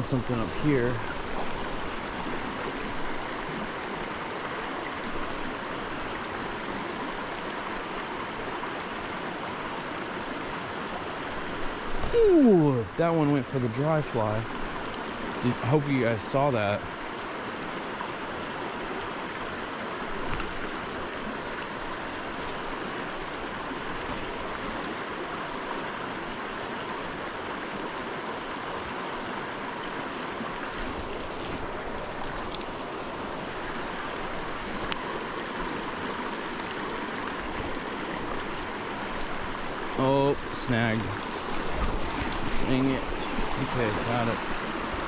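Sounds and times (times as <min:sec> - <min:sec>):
creek water rushing: 0:00.0 - 0:45.0.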